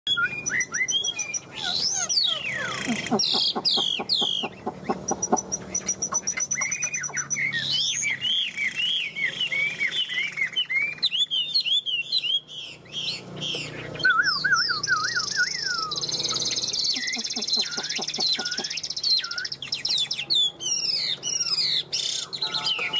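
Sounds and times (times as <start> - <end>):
bird singing whistled phrases: 0.1 - 22.9.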